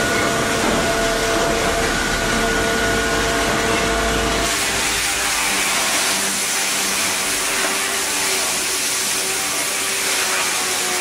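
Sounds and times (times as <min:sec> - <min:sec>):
wood-processing machinery hissing: 0:00.0 - 0:11.0.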